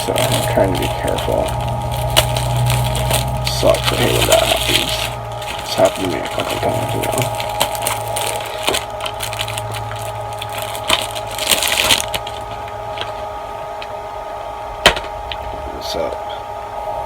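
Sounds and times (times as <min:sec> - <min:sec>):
plastic disc case crackling: 0:00.0 - 0:14.0
low electrical hum: 0:00.0 - 0:17.0.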